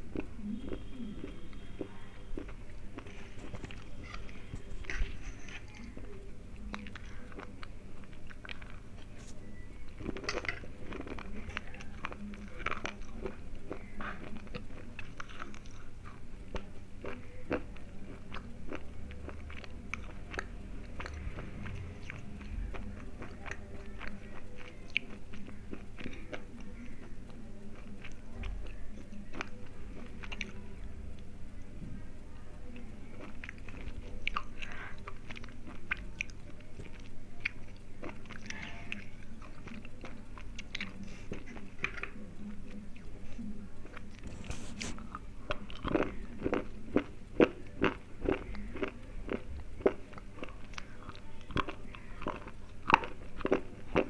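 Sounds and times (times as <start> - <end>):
crunching and chewing: 0.0 - 31.3, 32.6 - 54.0.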